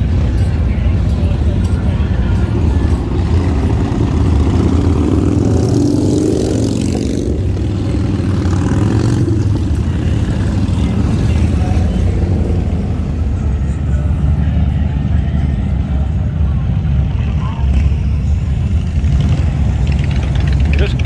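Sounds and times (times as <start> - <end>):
motorcycles riding past: 1.4 - 16.2, 17.5 - 21.0.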